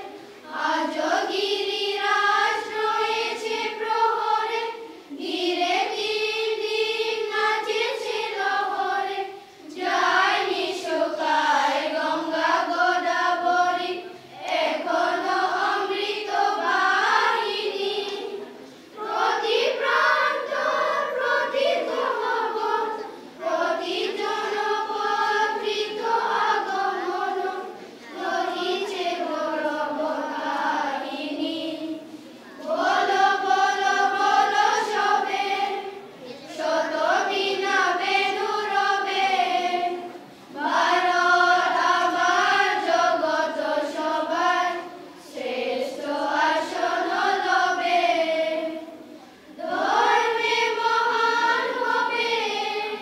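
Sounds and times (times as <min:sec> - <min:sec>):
children's choir singing: 0:00.0 - 0:53.0.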